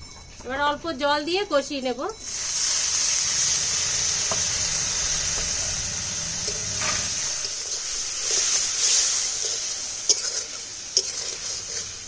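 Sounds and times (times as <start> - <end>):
spices sizzling in hot oil: 2.2 - 12.0.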